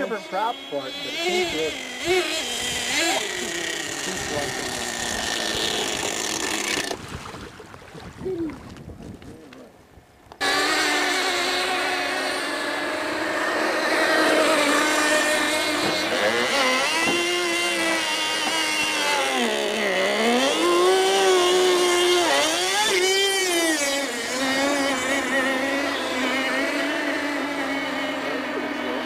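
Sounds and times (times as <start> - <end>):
model boat engine buzzing: 0.0 - 7.5, 10.3 - 29.0.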